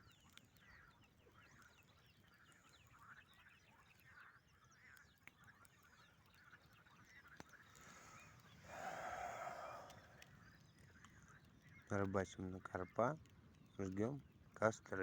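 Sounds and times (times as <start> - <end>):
faint repeating animal calls: 0.0 - 13.6.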